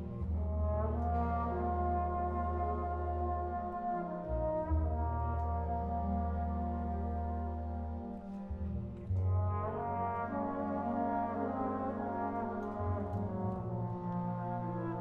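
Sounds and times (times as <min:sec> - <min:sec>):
wind band low held notes: 0:00.1 - 0:15.0
solo trombone melody: 0:00.3 - 0:08.0, 0:09.2 - 0:15.0.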